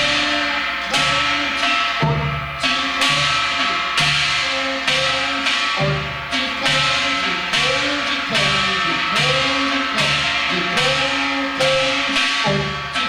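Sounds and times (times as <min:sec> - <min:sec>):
ringing percussion strokes: 0:00.0 - 0:13.0.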